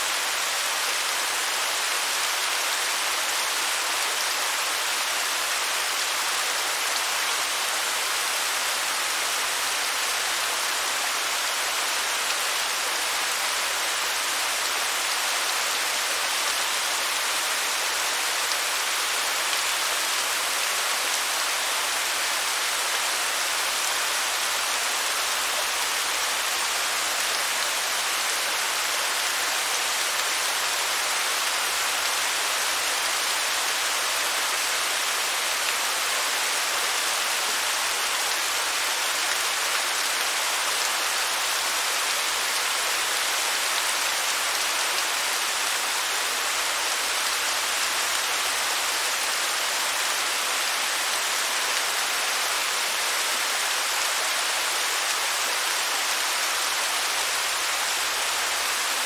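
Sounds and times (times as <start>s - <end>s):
waterfall: 0.0s - 59.0s.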